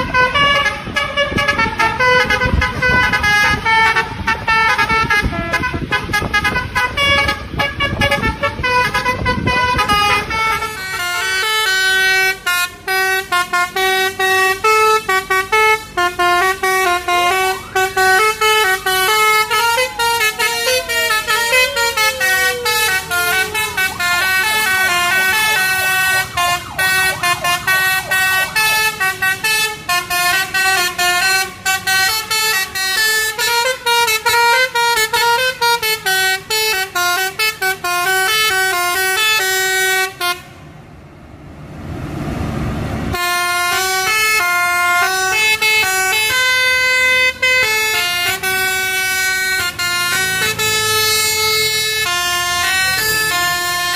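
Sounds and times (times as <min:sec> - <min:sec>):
multi-tone air horns playing tunes: 0:00.0 - 0:40.6, 0:43.1 - 0:53.9.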